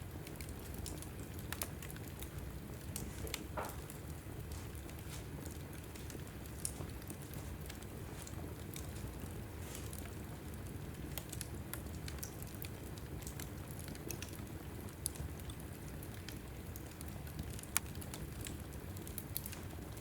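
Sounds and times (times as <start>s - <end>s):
fire flames rumbling: 0.0s - 20.0s
logs crackling and popping: 0.0s - 20.0s.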